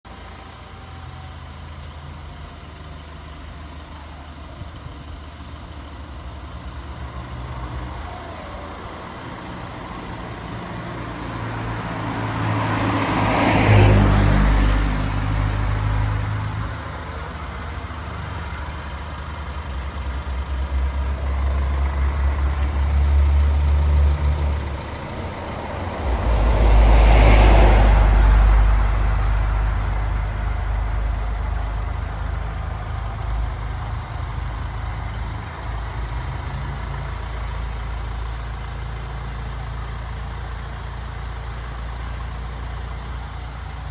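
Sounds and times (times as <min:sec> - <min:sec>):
vehicle engine rumble: 0:00.0 - 0:43.9
vehicles passing close: 0:00.1 - 0:43.9.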